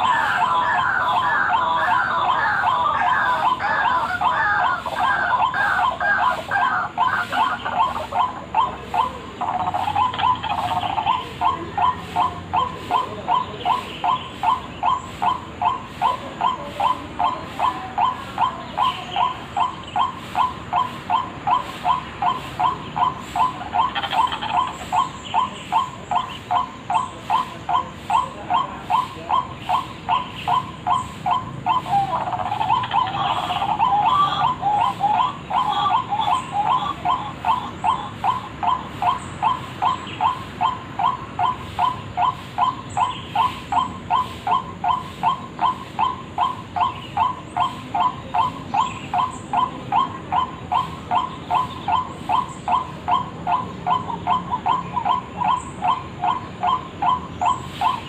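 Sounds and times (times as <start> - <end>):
waterhen calling: 0.0 - 58.0.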